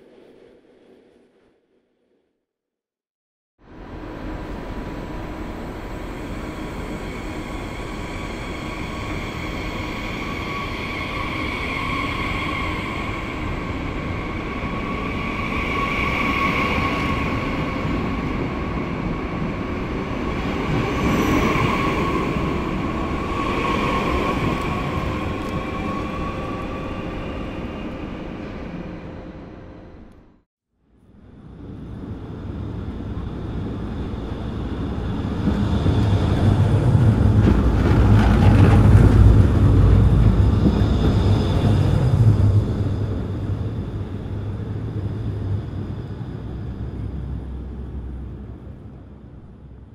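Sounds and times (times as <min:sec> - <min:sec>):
train rumble: 0:03.6 - 0:30.4, 0:31.1 - 0:49.9.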